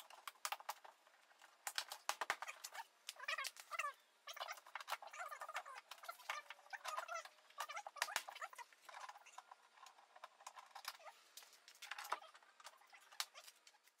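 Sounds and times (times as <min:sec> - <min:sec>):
plastic squeaks: 0:00.0 - 0:14.0.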